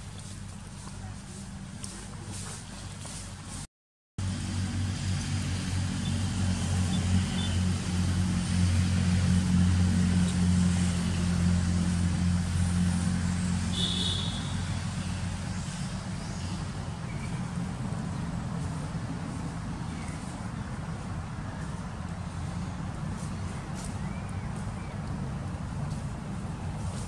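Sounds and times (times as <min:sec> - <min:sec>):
vehicle engine humming: 0:00.0 - 0:27.0.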